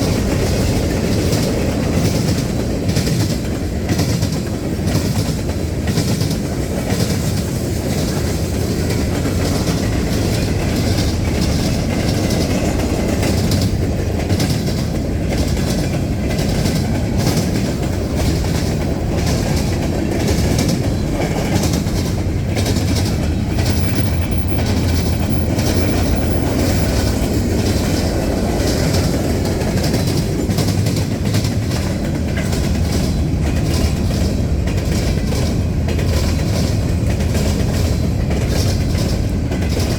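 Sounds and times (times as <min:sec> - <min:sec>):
wheels clacking over rail joints: 0:00.0 - 0:39.9
freight cars rolling past: 0:07.5 - 0:39.9.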